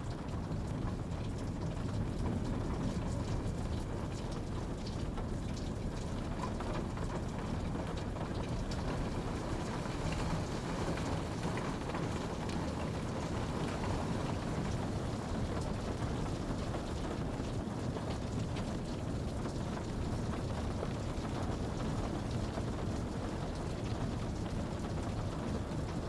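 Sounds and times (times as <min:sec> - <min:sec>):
steady rainfall: 0:00.0 - 0:26.0
raindrop ticks: 0:00.1 - 0:26.0.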